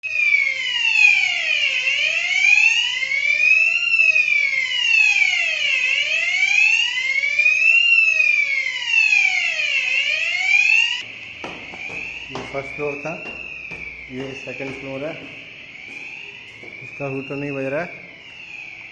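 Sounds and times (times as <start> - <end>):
electronic fire alarm wailing: 0.0 - 18.9.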